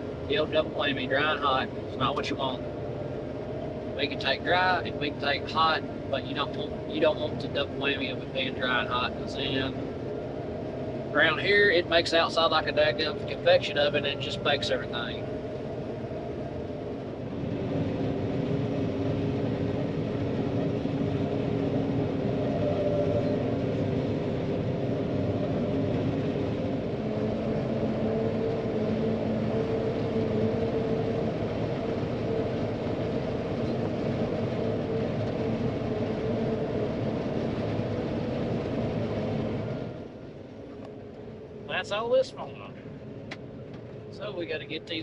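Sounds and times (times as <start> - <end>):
combine harvester machine drone: 0.0 - 45.0.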